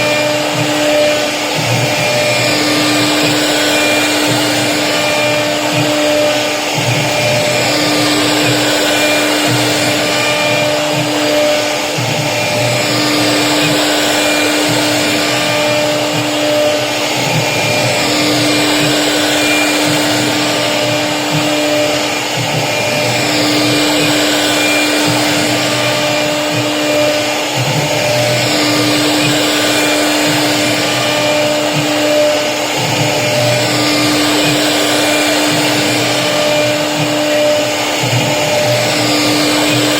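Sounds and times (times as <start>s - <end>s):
router spindle cutting board: 0.0s - 39.9s.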